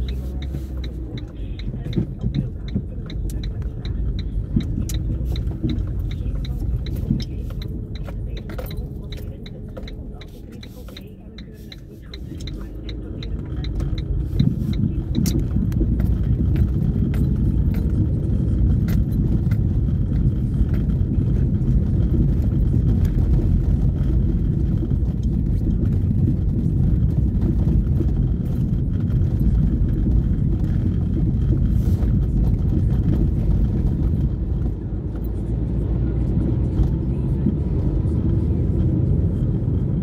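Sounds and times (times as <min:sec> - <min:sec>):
car driving over cobblestones: 0:00.0 - 0:40.0.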